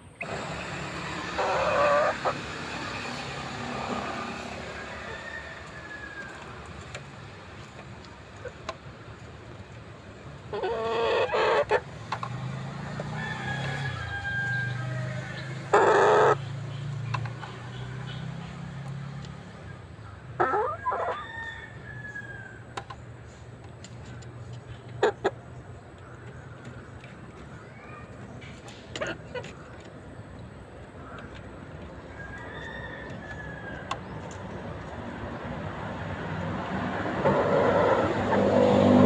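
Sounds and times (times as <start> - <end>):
chickens calling: 0.0 - 39.0.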